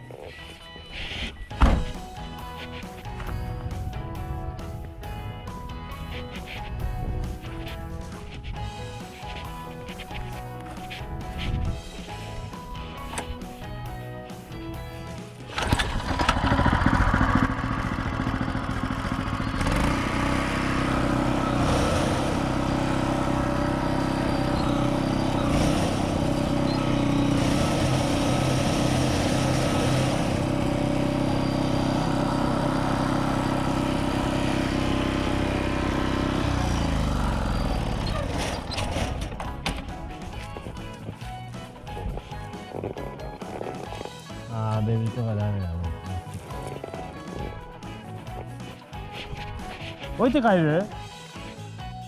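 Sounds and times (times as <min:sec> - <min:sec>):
small engine running: 0:00.0 - 0:52.0.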